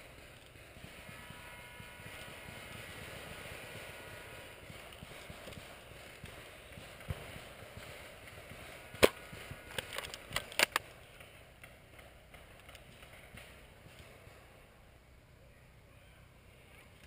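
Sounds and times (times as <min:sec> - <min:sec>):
woodland background: 0:00.0 - 0:17.0.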